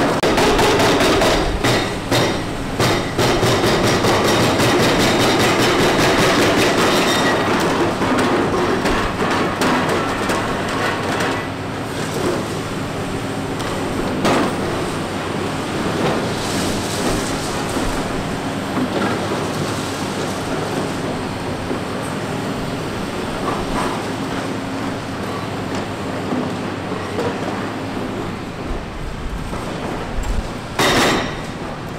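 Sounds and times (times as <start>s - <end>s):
excavator engine under load: 0.0s - 31.9s.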